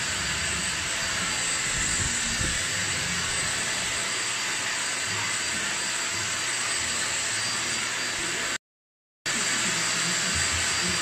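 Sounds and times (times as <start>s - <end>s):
vacuum cleaner running: 0.0s - 8.6s, 9.3s - 11.0s
vacuum motor whine: 0.0s - 8.6s, 9.3s - 11.0s.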